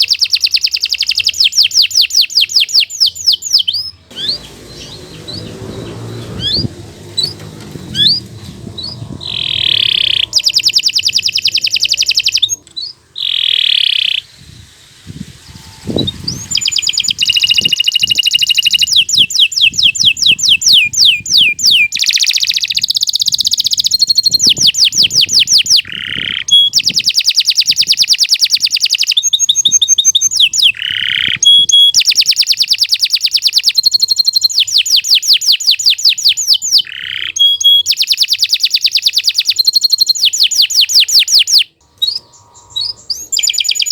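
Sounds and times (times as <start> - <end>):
canary singing trills: 0.0 - 14.4, 15.4 - 43.9.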